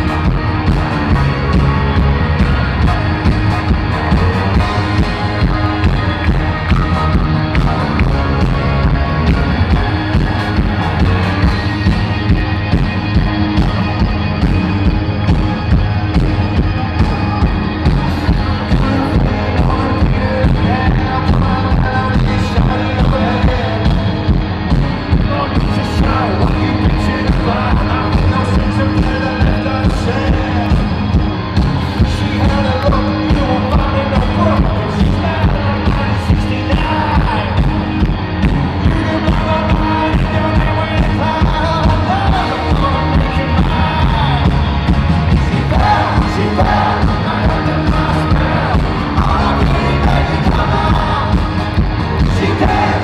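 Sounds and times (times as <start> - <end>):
person singing: 0.0 - 12.4, 16.8 - 31.0, 32.0 - 37.9, 38.5 - 53.0
drum beat: 0.0 - 53.0
rock band playing: 0.0 - 53.0.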